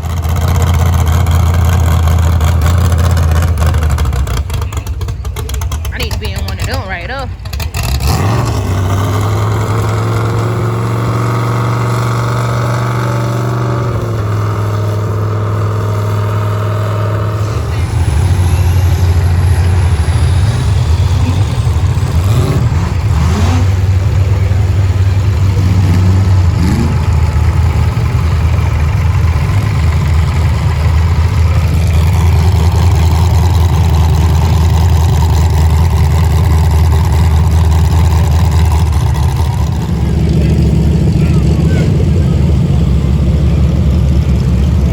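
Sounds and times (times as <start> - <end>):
car engines droning loudly: 0.0 - 44.9.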